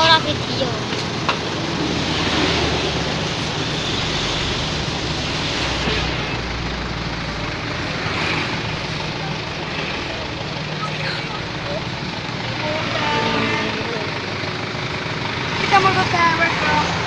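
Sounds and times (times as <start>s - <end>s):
heavy low rumble: 0.0s - 17.0s
passing traffic rumble: 0.0s - 17.0s.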